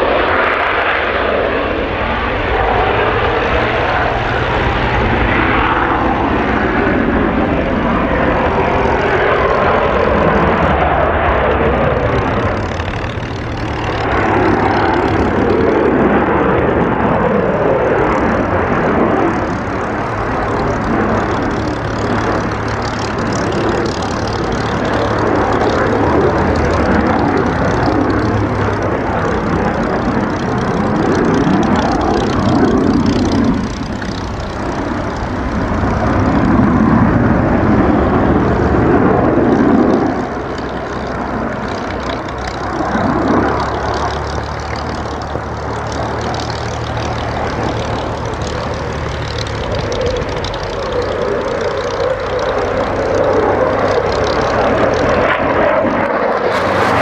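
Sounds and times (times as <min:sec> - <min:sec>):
jet engine roaring: 0:00.0 - 0:57.0.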